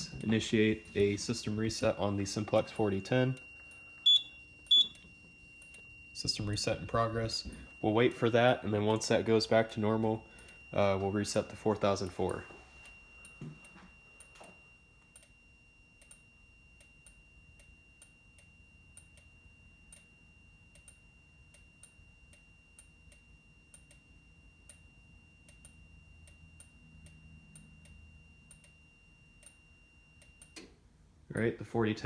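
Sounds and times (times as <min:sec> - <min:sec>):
fire alarm strobes clicking: 0:00.0 - 0:30.7.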